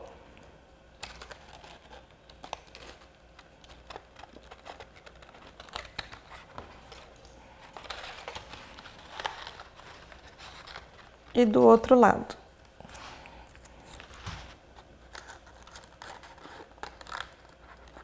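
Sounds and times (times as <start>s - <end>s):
paper rustling: 1.0s - 11.9s, 12.8s - 18.0s.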